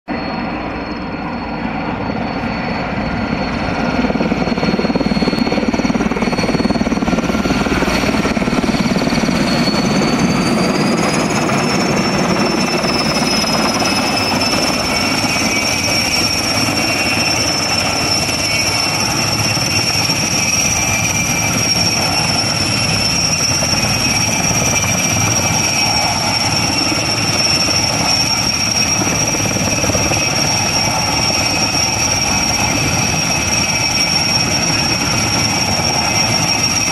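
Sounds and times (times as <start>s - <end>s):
helicopter rotors and engines: 0.1s - 36.9s
high turbine whine: 0.1s - 36.9s.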